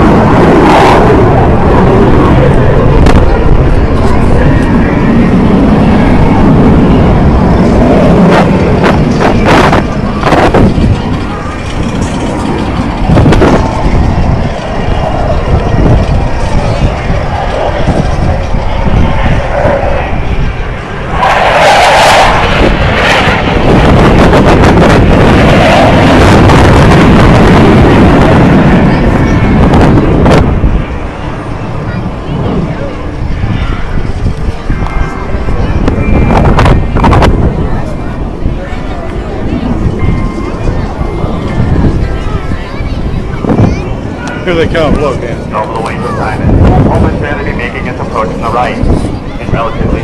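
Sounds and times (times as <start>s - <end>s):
jet flying past overhead: 0.0s - 50.0s
wind buffeting microphone: 0.0s - 50.0s.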